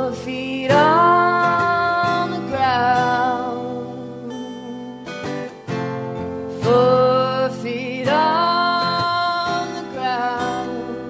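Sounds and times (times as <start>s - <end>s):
woman singing: 0.0s - 5.6s, 6.4s - 11.0s
strummed acoustic guitar: 0.0s - 11.0s.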